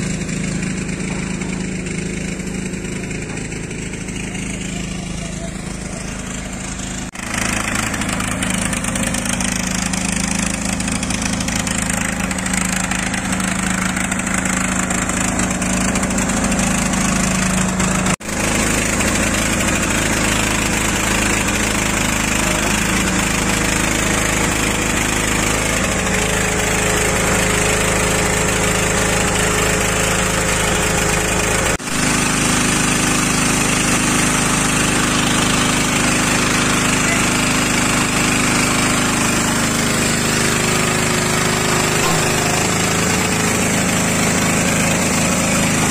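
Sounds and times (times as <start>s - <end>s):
small gasoline engine running: 0.0s - 45.9s.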